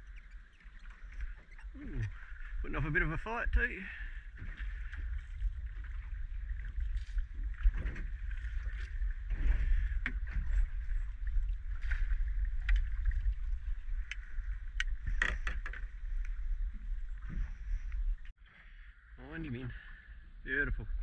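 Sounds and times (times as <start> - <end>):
wind rumble on microphone: 0.0 - 18.3
water lapping against boat hull: 0.0 - 21.0.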